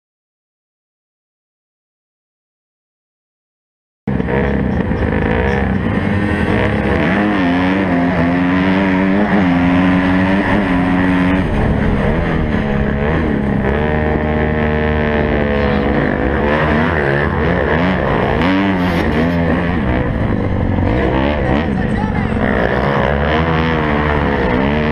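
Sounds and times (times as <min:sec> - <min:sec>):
motocross bike engines revving: 0:04.1 - 0:24.9.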